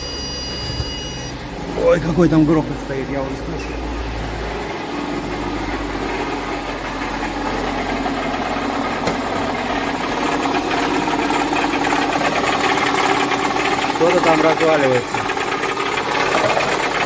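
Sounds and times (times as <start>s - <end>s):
car engine idling with loud rattling: 0.0s - 17.0s.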